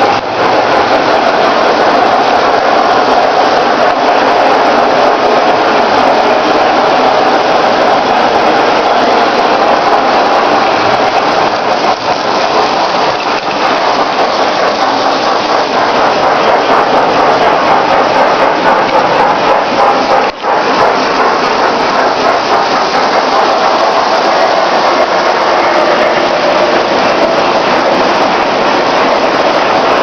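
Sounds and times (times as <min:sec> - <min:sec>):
toy train motor and wheels whirring: 0:00.0 - 0:30.0.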